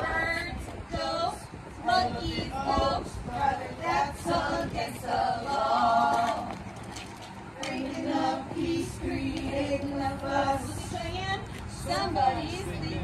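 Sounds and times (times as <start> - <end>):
group singing without instruments: 0.0 - 6.8, 7.5 - 13.0.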